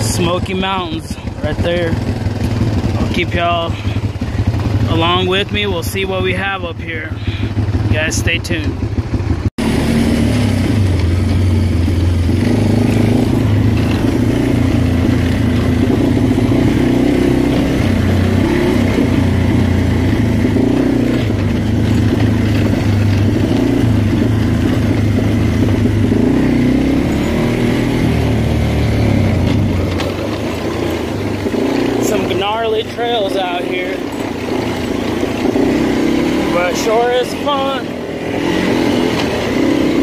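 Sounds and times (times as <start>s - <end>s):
atv engine under load: 0.0s - 40.0s.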